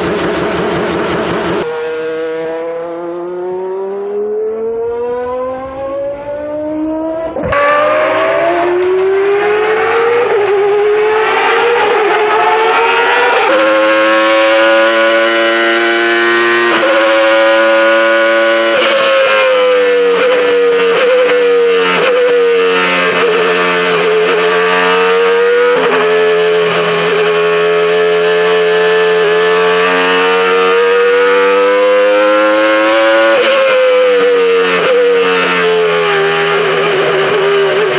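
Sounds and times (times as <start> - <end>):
racing engine at high revs: 0.0 - 37.9.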